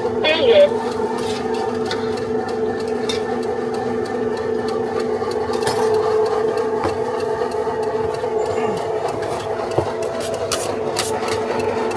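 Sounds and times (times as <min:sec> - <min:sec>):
steady motor hum: 0:00.0 - 0:11.9.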